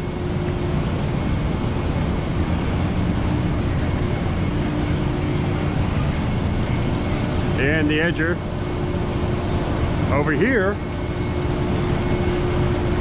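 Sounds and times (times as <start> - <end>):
sawmill conveyor machinery: 0.0 - 13.0
steady hum: 0.0 - 13.0.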